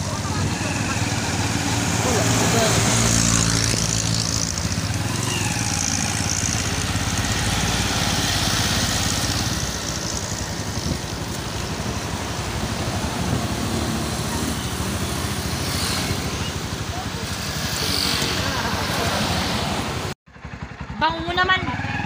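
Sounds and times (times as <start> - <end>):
diesel engine passing: 0.0 - 22.0
passing traffic noise: 0.0 - 22.0.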